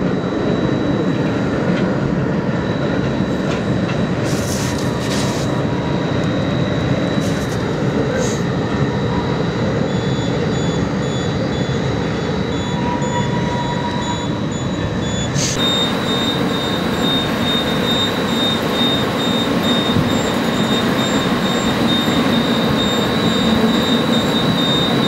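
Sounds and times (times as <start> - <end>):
railcars rumbling with whine: 0.0 - 25.0.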